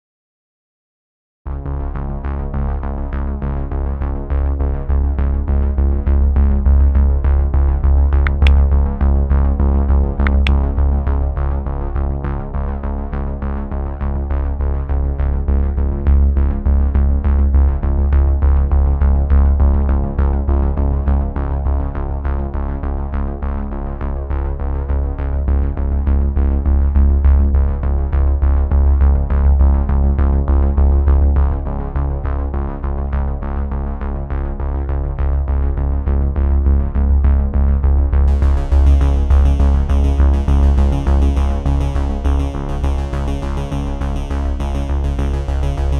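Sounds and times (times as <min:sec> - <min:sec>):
electronic music with synth and bass: 0:01.5 - 0:45.9.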